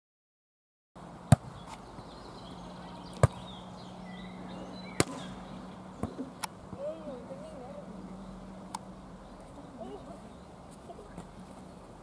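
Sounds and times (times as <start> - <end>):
faint birds chirping: 1.0 - 12.0.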